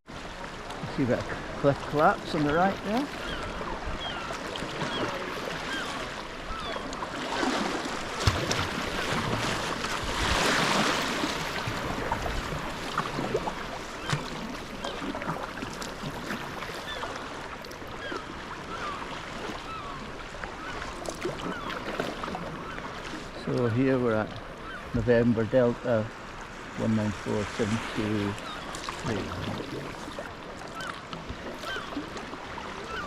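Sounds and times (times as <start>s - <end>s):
water lapping at hull: 0.0s - 33.0s
paddle strokes splashing: 0.1s - 25.3s, 26.1s - 33.0s.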